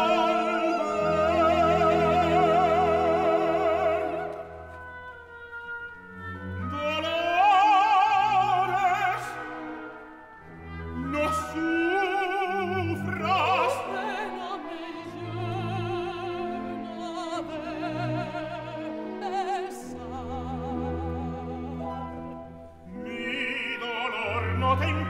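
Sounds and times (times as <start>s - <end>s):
orchestra accompaniment: 0.0s - 25.0s
soprano singing with vibrato: 0.0s - 25.0s.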